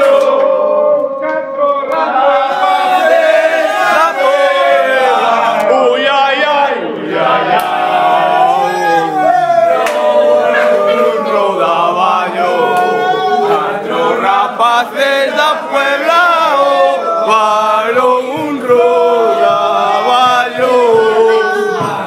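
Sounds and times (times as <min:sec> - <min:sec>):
men singing unaccompanied: 0:00.0 - 0:22.0.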